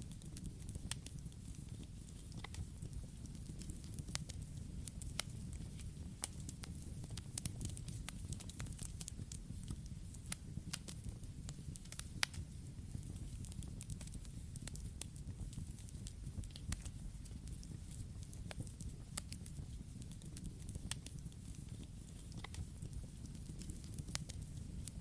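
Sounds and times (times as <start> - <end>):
campfire crackling and popping: 0.0 - 25.0
low rumble of flames: 0.0 - 25.0.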